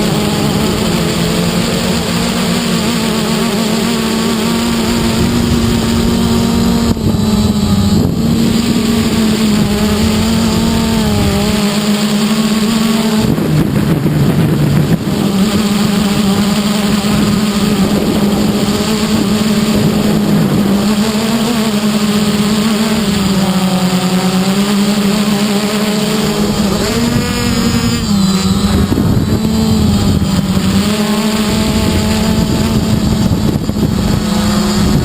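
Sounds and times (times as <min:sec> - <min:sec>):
drone propellers buzzing: 0:00.0 - 0:35.0
wind noise on microphone: 0:00.0 - 0:35.0.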